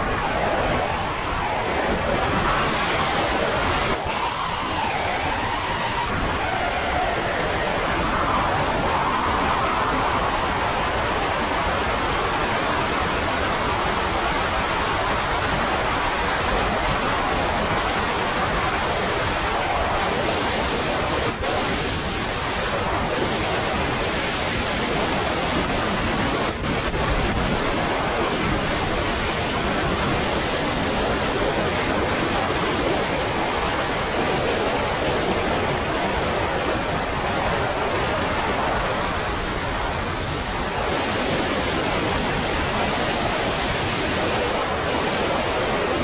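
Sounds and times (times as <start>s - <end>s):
wind roaring on microphone: 0.0s - 46.0s.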